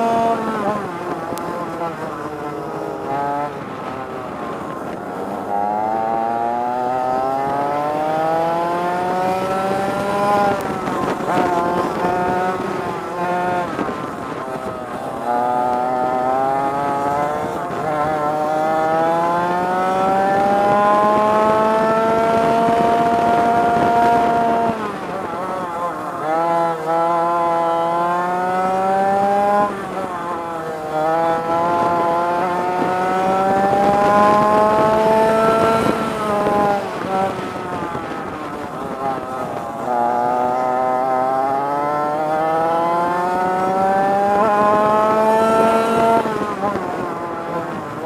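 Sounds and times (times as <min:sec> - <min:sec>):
kart engine accelerating: 0:00.0 - 0:48.0.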